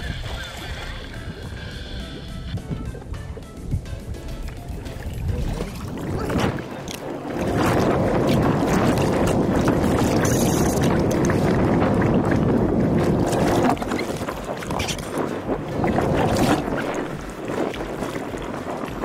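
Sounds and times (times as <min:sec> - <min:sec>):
rushing wind and water: 0:00.0 - 0:19.0.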